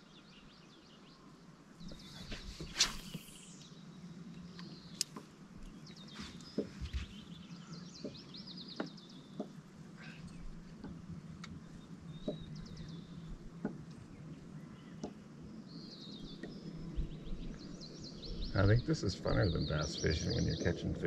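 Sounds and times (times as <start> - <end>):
faint low hum: 0.4 - 21.0
small birds trilling: 1.8 - 21.0.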